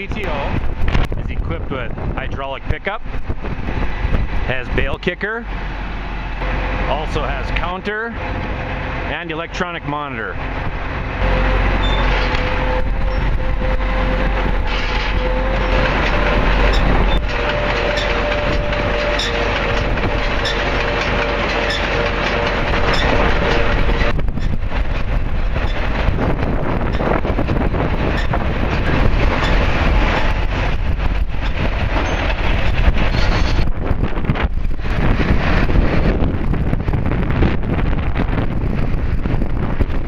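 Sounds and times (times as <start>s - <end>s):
steady whine: 0.0s - 40.0s
baler mechanical clatter: 6.4s - 40.0s.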